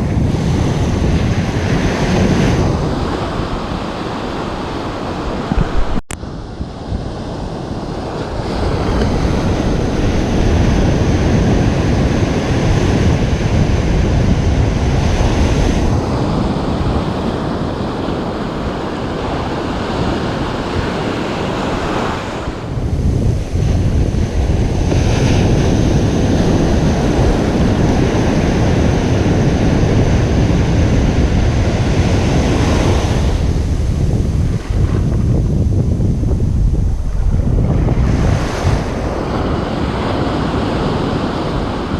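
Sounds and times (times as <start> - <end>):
ocean surf washing on beach: 0.0 - 41.9
wind on microphone: 0.0 - 41.9.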